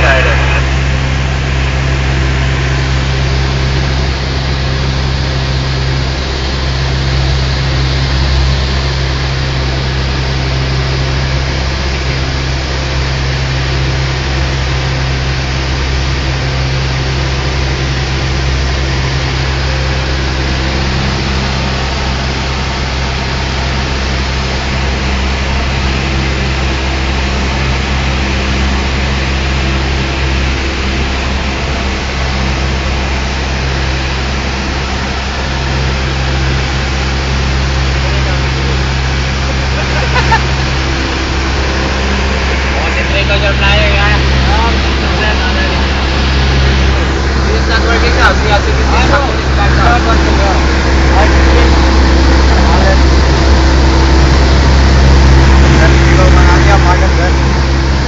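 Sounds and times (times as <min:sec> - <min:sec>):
propeller plane engine droning: 0:00.0 - 0:58.0.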